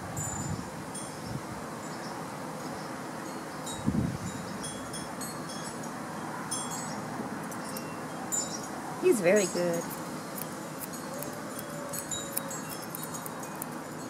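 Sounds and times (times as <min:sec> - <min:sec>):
steady background hiss: 0:00.0 - 0:14.0
metal wind chimes tinkling: 0:00.1 - 0:02.0, 0:03.2 - 0:14.0.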